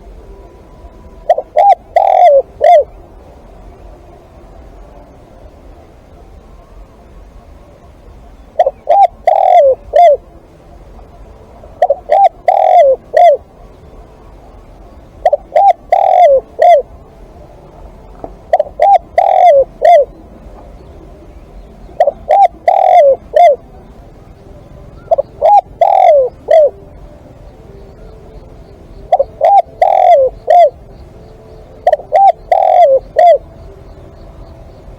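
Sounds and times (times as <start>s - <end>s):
dove cooing: 0.0s - 3.1s, 8.5s - 13.9s, 14.9s - 34.9s.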